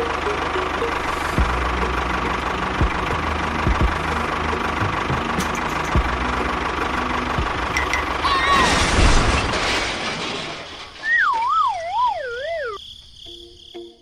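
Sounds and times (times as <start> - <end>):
tractor engine idling: 0.0 - 12.8.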